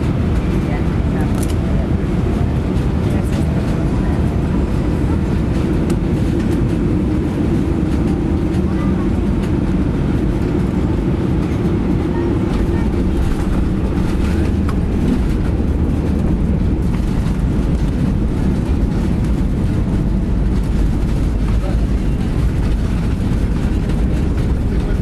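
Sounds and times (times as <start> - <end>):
aircraft engine noise: 0.0 - 25.0
wheels rolling on runway: 2.7 - 25.0.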